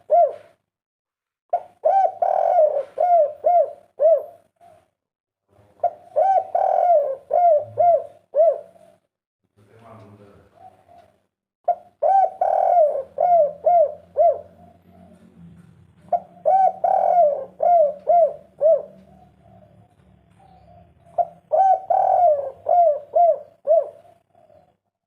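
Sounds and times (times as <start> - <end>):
dove cooing: 0.0 - 0.6, 1.5 - 4.9, 5.7 - 9.0, 10.4 - 15.4, 16.0 - 25.0.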